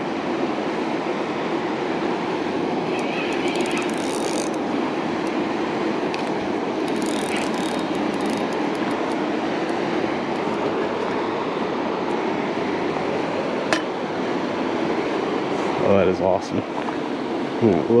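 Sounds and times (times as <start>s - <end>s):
river water rushing over rocks: 0.0s - 15.8s.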